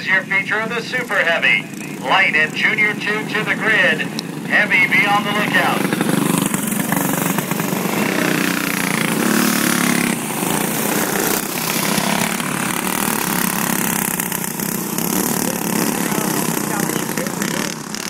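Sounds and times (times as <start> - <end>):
kart engines passing at speed: 0.0 - 18.0.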